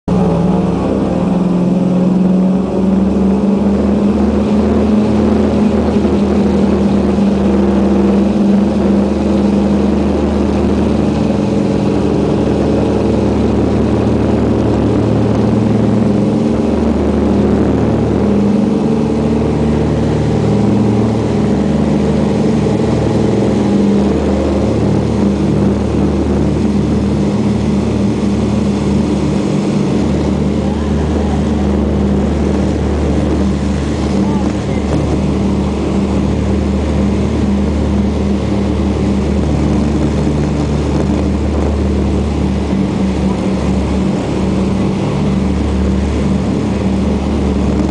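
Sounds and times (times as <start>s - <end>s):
propeller engines drone: 0.0s - 47.9s.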